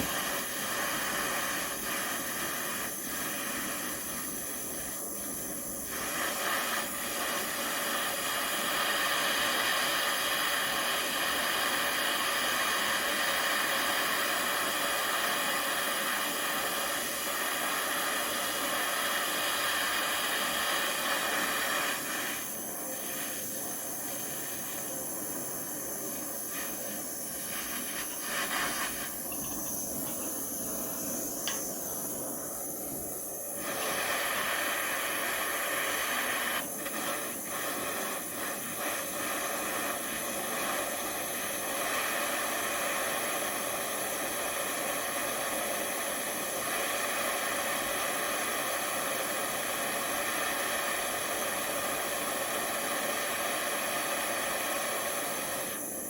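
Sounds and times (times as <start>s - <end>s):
gas flame hissing: 0.0s - 56.0s.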